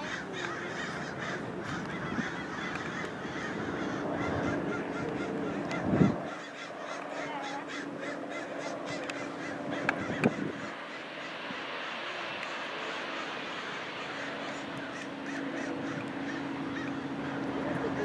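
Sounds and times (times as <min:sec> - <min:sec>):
birds calling: 0:00.0 - 0:18.0
steady low hum: 0:00.0 - 0:18.0.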